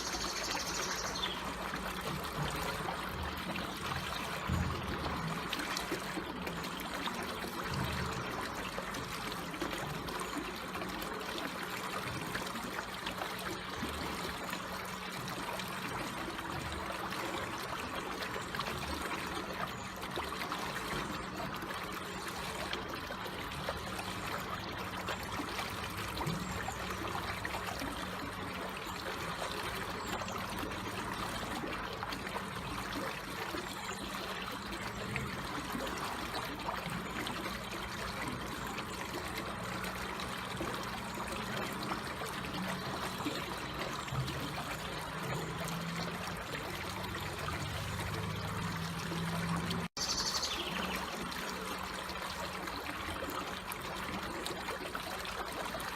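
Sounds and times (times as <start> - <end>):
water trickling: 0.0 - 55.9.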